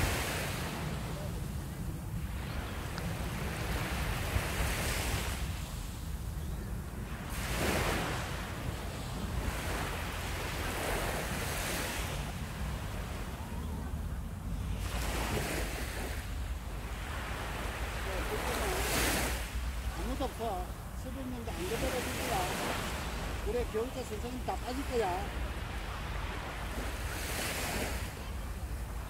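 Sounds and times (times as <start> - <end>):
surf washing: 0.0 - 29.0.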